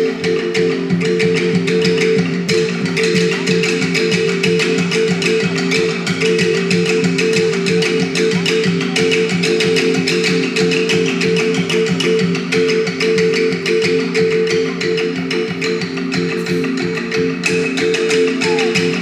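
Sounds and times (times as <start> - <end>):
folk instruments playing struck notes: 0.0 - 19.0.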